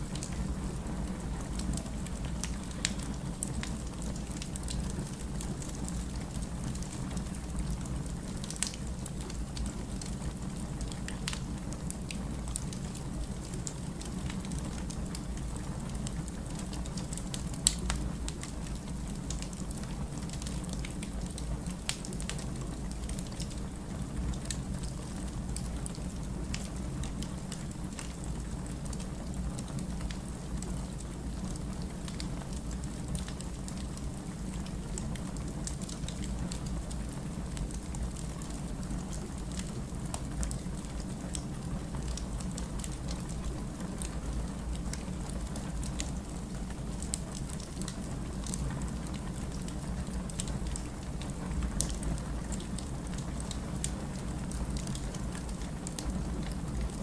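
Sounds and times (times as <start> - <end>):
fire crackles and pops: 0.0 - 57.0
firewood burning: 0.0 - 57.0.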